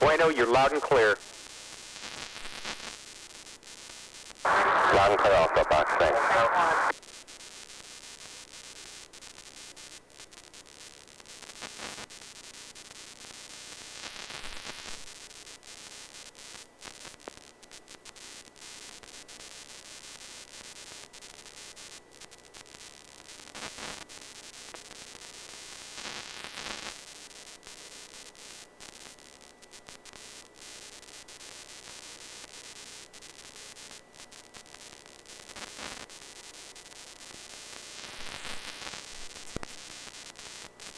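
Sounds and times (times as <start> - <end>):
radio static hiss: 0.0 - 17.4, 18.0 - 40.9.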